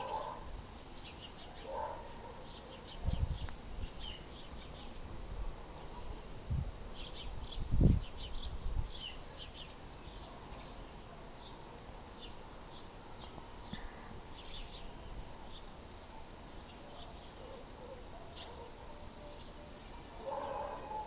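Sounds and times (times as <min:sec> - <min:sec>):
faint steady hiss: 0:00.0 - 0:21.0
small birds chirping: 0:00.0 - 0:21.0.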